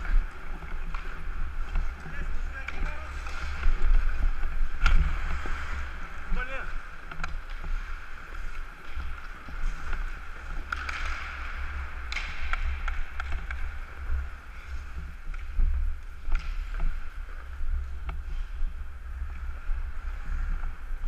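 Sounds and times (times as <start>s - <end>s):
skate blades scraping ice: 0.0s - 21.0s.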